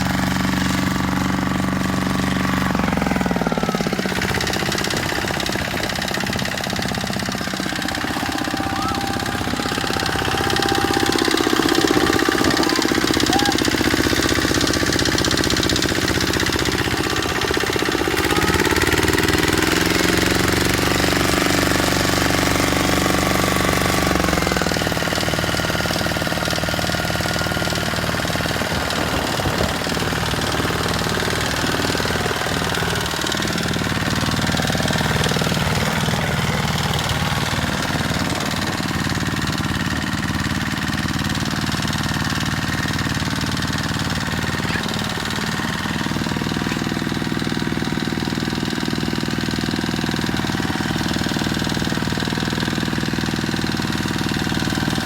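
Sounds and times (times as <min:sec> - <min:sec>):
tractor engine knocking: 0:00.0 - 0:55.0.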